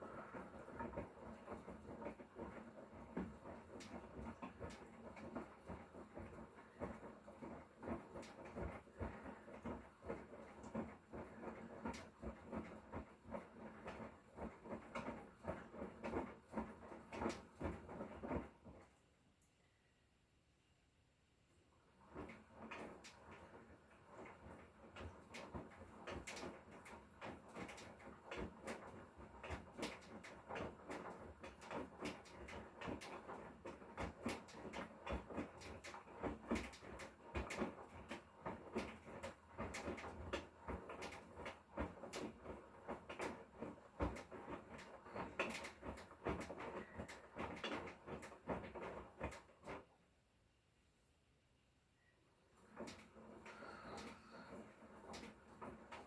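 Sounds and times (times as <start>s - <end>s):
washing machine knocking and clunking: 0.0s - 19.0s, 21.9s - 50.0s, 52.5s - 56.0s.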